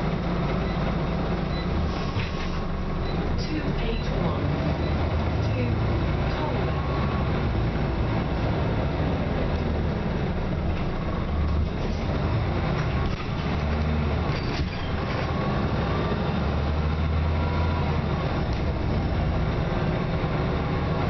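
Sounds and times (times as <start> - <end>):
bus diesel engine hum: 0.0 - 21.0
road and body noise: 0.0 - 21.0.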